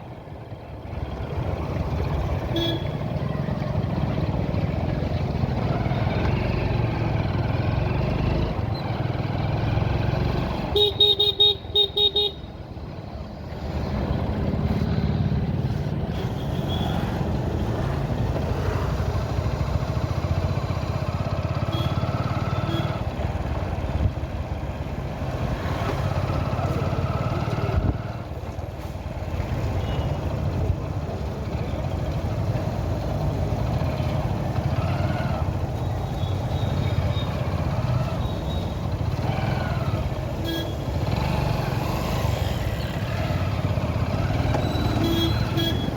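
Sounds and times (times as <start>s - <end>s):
road noise: 0.0s - 45.9s
vehicle engine: 0.0s - 45.9s.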